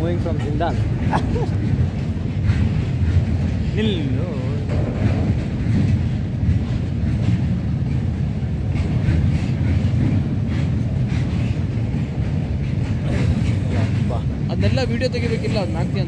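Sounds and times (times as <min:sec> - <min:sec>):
steel wheels rumbling on rail: 0:00.0 - 0:16.0
wheels clicking over rail joints: 0:00.0 - 0:16.0.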